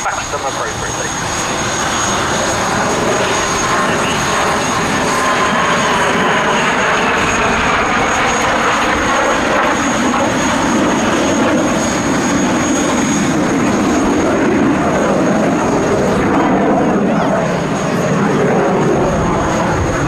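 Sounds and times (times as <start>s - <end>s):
high jet whine: 0.0s - 20.0s
jet engines roaring: 0.0s - 20.0s.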